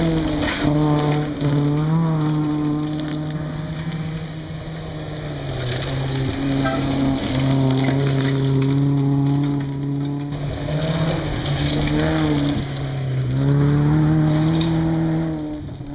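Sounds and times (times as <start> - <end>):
gravel hiss: 0.0 - 15.9
rally car engine revving: 0.0 - 15.9.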